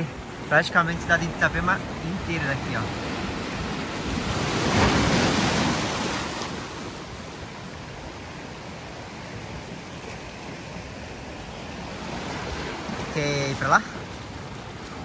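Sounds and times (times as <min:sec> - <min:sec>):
sea waves washing over rocks: 0:00.0 - 0:15.0.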